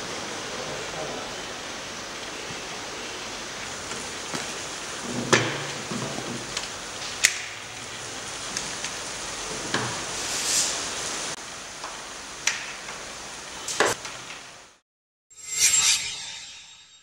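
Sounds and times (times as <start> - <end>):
steady hiss: 0.0 - 14.8.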